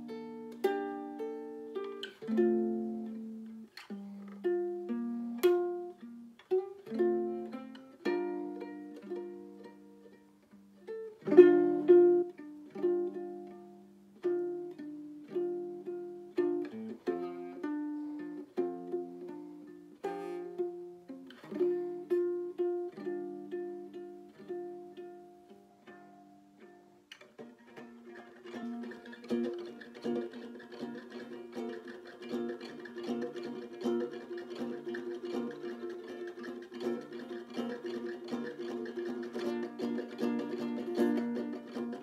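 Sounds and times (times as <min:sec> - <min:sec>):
fingerpicked nylon-string guitar: 0:00.0 - 0:42.0.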